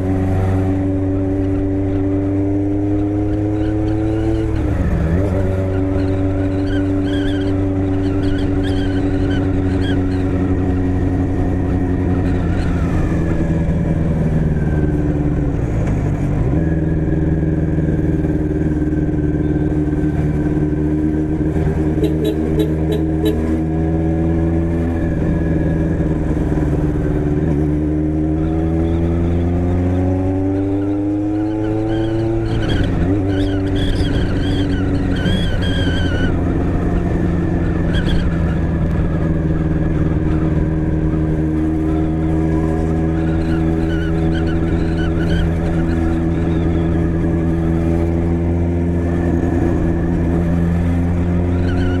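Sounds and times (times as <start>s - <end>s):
motorcycle engine accelerating: 0.0s - 52.0s.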